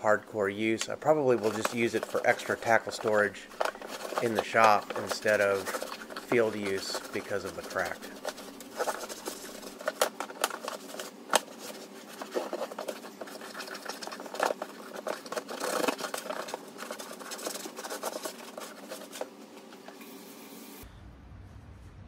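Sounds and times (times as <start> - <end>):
rag scrubbing plastic box: 0.6 - 20.0.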